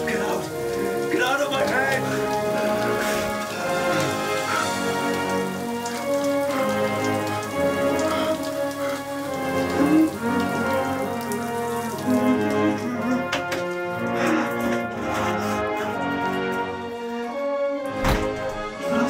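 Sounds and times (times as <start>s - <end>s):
orchestral music: 0.0s - 19.0s
shower water spraying: 0.0s - 19.0s.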